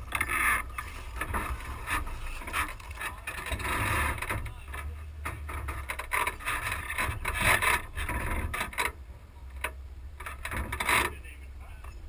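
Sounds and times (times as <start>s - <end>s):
branches scraping trailer side: 0.0s - 11.4s
low rumble of moving vehicle: 0.0s - 12.0s.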